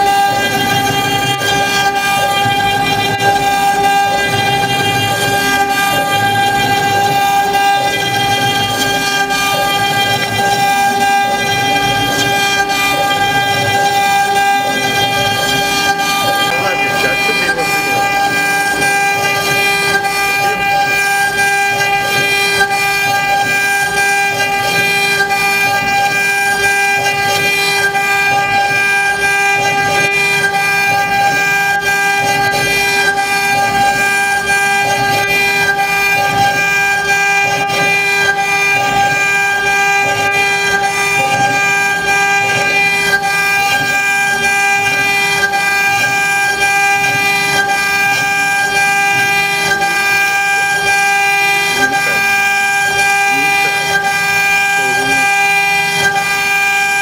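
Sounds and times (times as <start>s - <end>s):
cutter milling wood: 0.0s - 57.0s
router spindle whine: 0.0s - 57.0s.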